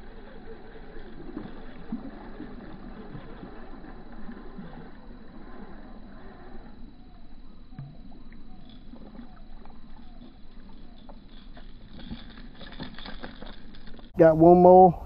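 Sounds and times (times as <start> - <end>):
fish splashing in water: 0.0 - 13.4
faint ticks: 0.1 - 14.1.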